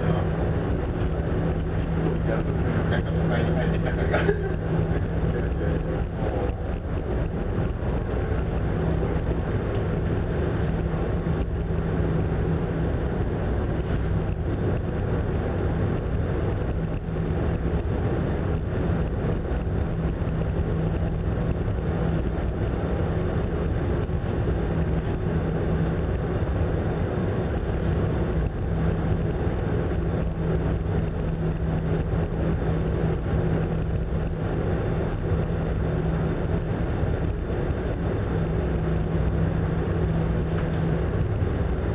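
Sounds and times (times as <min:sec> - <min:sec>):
heavy sea: 0:00.0 - 0:41.9
ship engines droning: 0:00.0 - 0:41.9
wind: 0:00.0 - 0:41.9.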